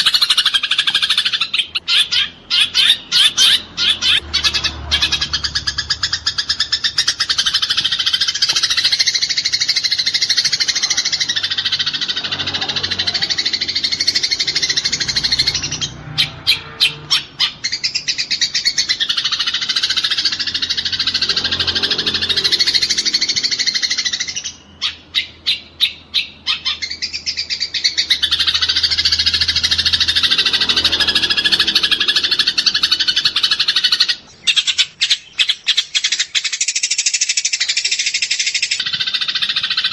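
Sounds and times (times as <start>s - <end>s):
sparrows chattering chirps: 0.0s - 39.9s.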